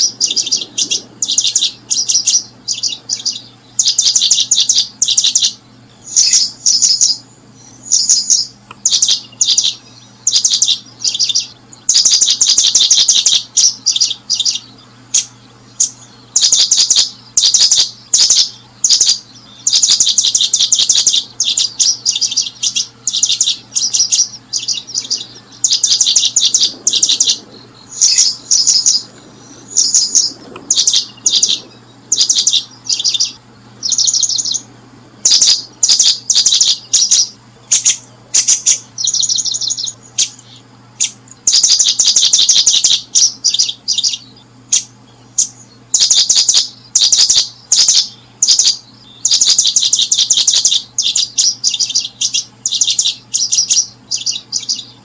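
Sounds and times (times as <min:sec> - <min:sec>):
faint low hum: 0:00.0 - 0:55.0
small bird chirping: 0:00.0 - 0:55.0.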